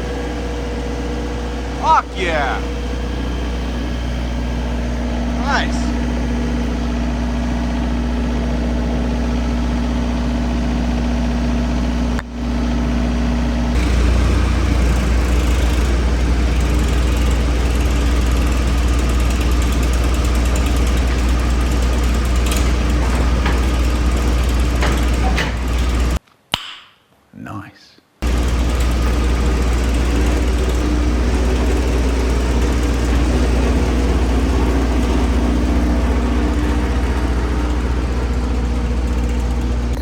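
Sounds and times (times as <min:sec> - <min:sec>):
diesel generator running: 0:00.0 - 0:26.2, 0:28.2 - 0:40.0.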